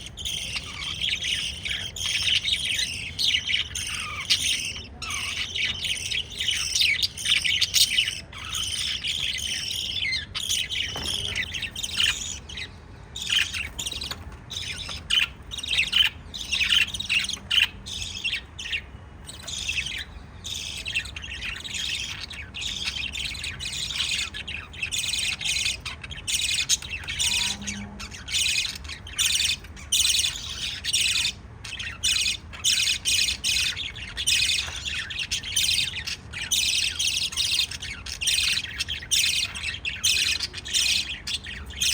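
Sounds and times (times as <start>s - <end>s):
bird squawks: 0.0s - 41.9s
birds chirping rapidly: 0.0s - 41.9s.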